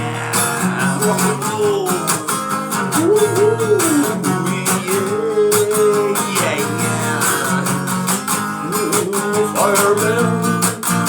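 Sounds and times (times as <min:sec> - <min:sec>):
guitar melody sliding: 0:00.0 - 0:11.0.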